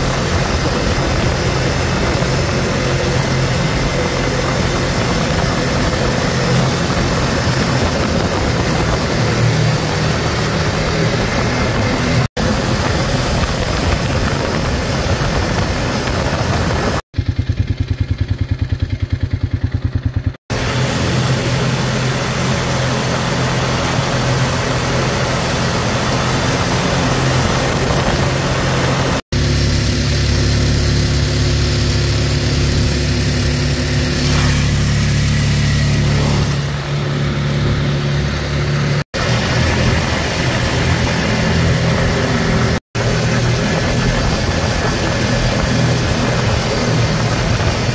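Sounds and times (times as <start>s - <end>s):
fast low fluttering: 0.0s - 47.9s
off-road vehicle engine: 0.0s - 47.9s.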